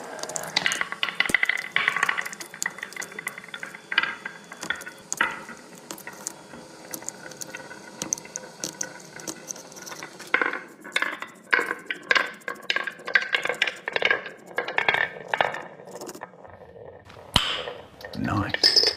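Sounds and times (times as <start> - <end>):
cracked glass crackling and clicking: 0.0 - 16.4.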